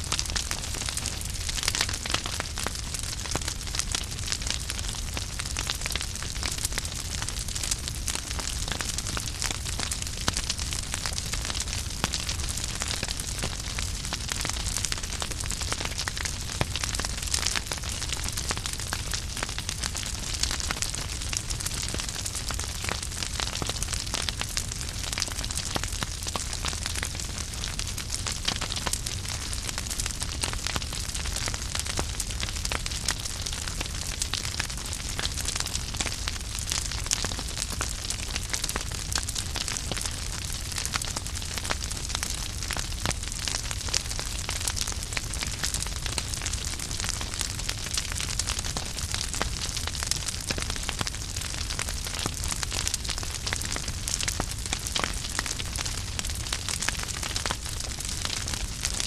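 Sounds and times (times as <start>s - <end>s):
low rumble of flames: 0.0s - 59.0s
wood fire crackling: 0.1s - 59.0s
burning logs popping and snapping: 0.2s - 59.0s.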